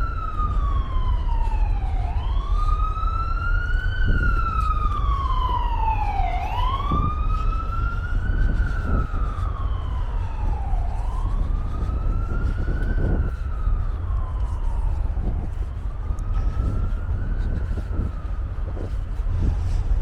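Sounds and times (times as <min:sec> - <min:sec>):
emergency siren wailing: 0:00.0 - 0:20.0
steady low rumble: 0:00.0 - 0:20.0.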